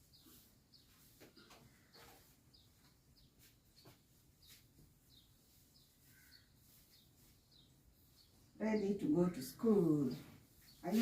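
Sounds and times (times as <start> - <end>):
bird chirping faintly: 0.0 - 11.0.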